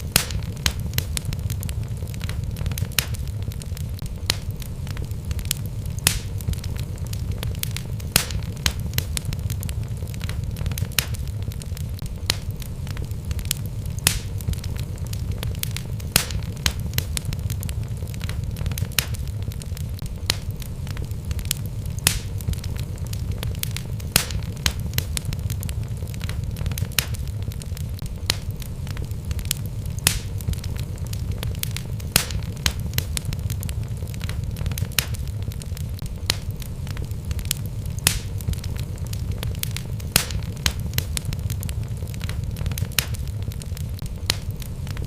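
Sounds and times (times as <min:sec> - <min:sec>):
fire crackling and popping: 0:00.0 - 0:45.0
low rumble of flames: 0:00.0 - 0:45.0.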